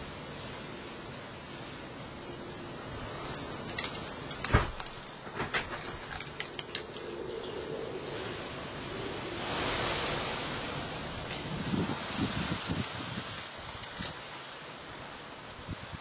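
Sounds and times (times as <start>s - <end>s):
wind rustling through foliage: 0.0s - 16.0s.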